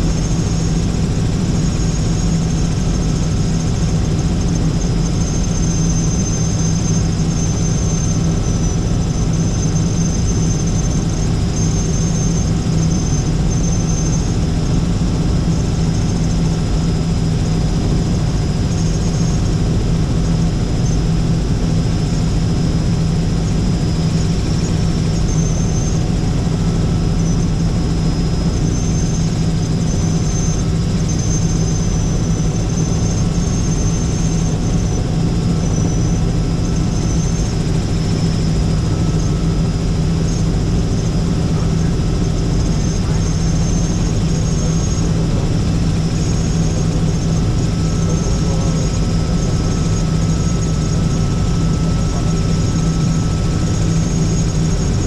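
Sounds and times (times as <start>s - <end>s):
helicopter rotor and engine drone: 0.0s - 55.0s
high whine: 0.0s - 55.0s.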